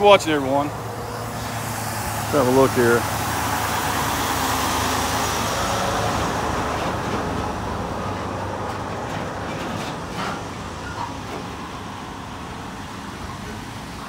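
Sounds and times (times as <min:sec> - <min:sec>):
truck passing by: 0:00.0 - 0:14.0.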